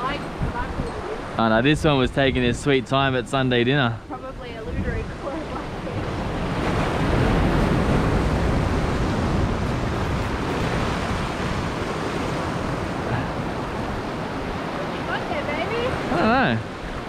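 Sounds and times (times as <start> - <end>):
surf washing against breakwall: 0.0 - 17.0.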